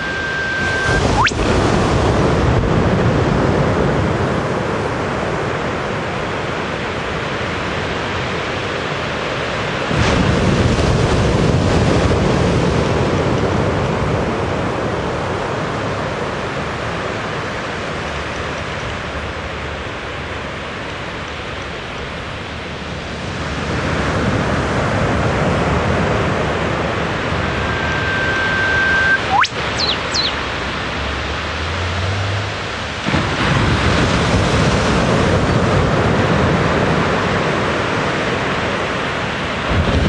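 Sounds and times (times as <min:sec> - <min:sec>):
loud steady rushing noise: 0:00.0 - 0:40.0.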